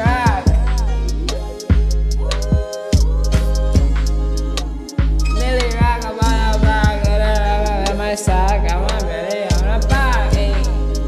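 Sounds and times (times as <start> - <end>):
deep bass: 0.0 - 11.0
hi-hats: 0.0 - 11.0
hip hop beat: 0.0 - 11.0
wavering melodic line: 0.0 - 11.0.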